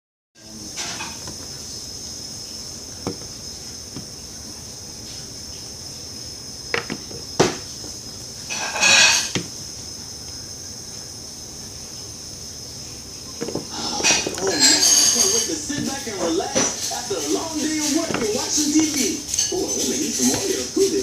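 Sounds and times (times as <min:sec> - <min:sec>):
high-pitched hiss: 0:00.4 - 0:21.0.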